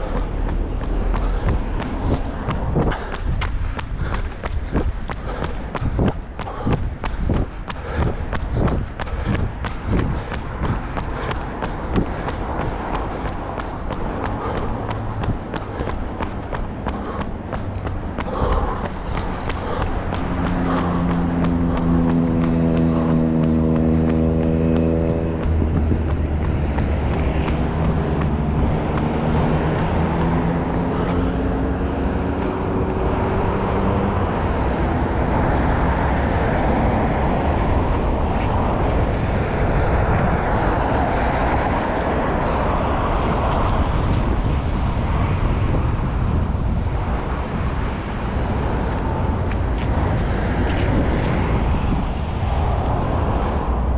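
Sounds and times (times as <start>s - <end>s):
rushing road and wind noise: 0.0s - 53.9s
vehicle engine humming: 0.0s - 53.9s.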